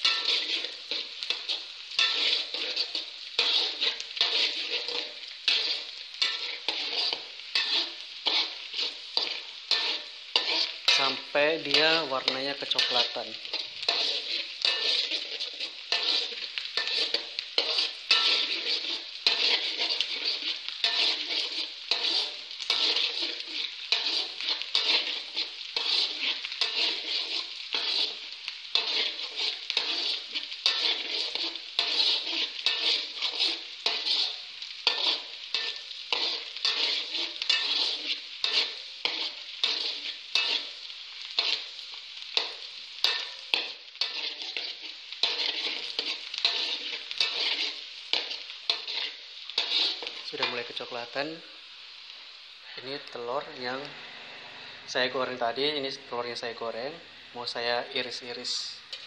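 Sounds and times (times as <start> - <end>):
spatula scraping pan: 0.0 - 51.2, 58.0 - 59.0
shallots sizzling in hot oil: 0.0 - 59.0.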